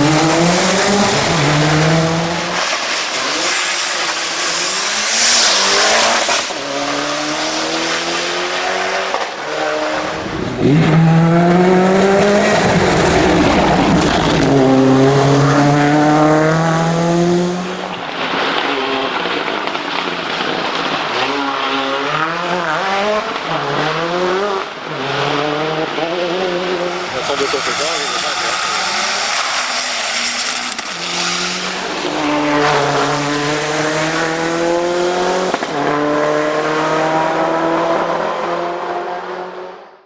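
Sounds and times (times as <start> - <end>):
car engine accelerating through gears: 0.0 - 20.4, 21.1 - 39.8.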